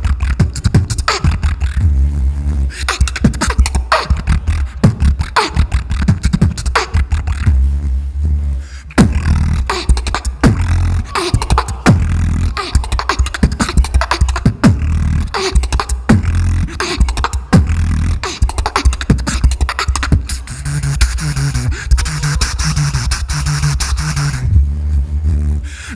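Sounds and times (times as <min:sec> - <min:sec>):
beatboxing into microphone: 0:00.0 - 0:25.9.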